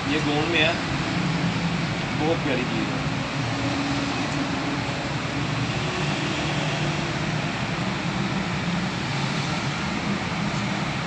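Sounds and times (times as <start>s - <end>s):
steady background hum and hiss: 0.0s - 11.0s.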